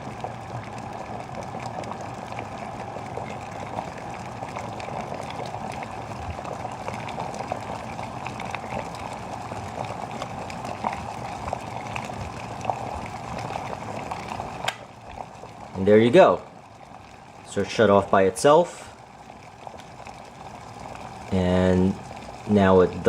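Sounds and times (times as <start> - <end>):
water boiling in electric kettle: 0.0 - 23.0.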